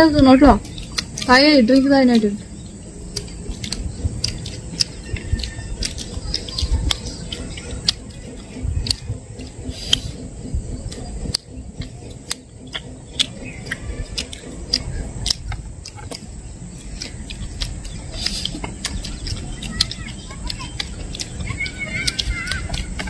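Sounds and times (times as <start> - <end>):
low rumble: 0.0 - 23.0
people chewing with wet clicks: 0.0 - 23.0.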